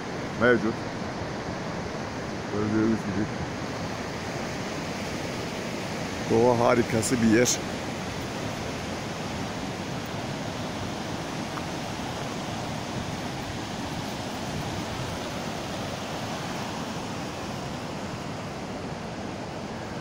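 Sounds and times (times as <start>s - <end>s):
stream rushing over rocks: 0.0s - 20.0s.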